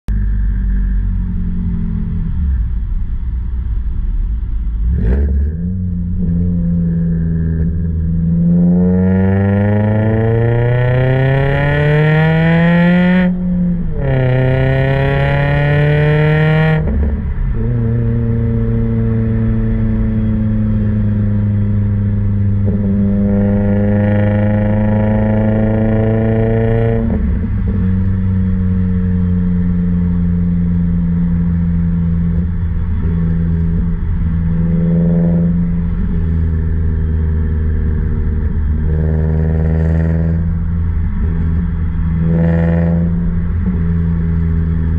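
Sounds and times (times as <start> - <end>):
car engine revving: 0.1 - 44.9.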